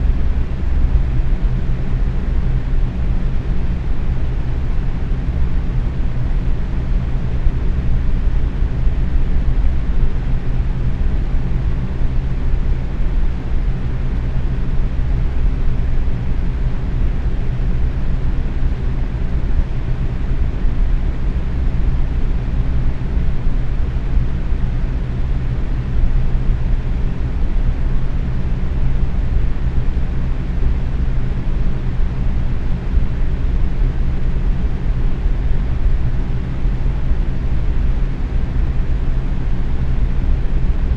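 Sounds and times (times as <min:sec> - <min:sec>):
fan motor hum: 0:00.0 - 0:40.9.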